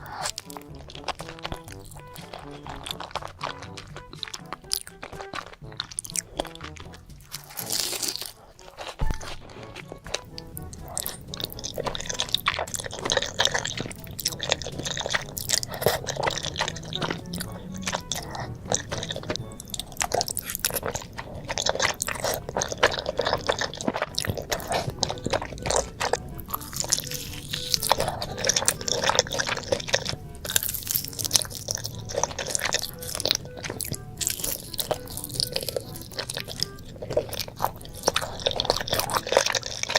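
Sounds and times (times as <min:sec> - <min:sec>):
person crunching and chewing: 0:00.0 - 0:39.9.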